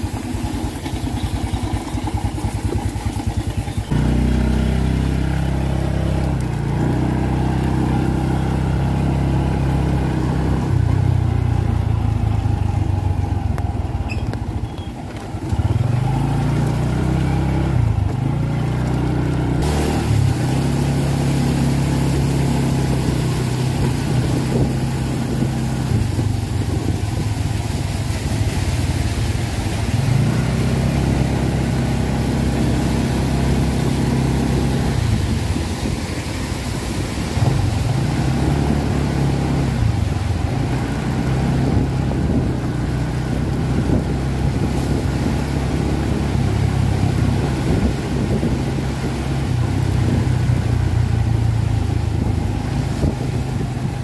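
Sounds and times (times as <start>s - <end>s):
motorcycle engine: 0.0s - 54.0s
rain and wet road hiss: 0.0s - 54.0s.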